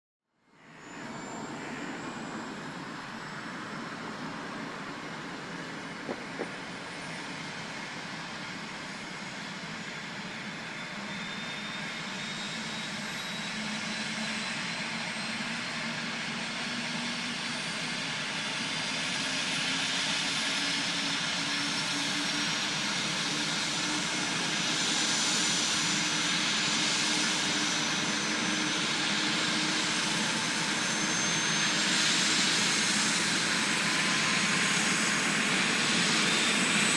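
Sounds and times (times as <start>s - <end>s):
helicopter turbine whine starting up: 0.6s - 36.9s.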